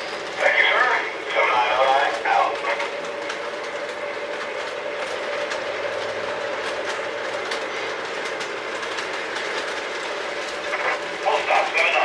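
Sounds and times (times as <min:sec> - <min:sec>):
model locomotive hum: 0:00.0 - 0:12.0
train wheels clicking over rail joints: 0:01.6 - 0:12.0.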